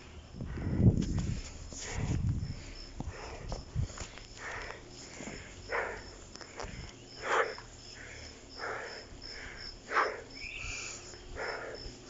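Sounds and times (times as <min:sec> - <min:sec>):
insects chirping: 0:00.0 - 0:12.0
person breathing hard: 0:00.0 - 0:12.0.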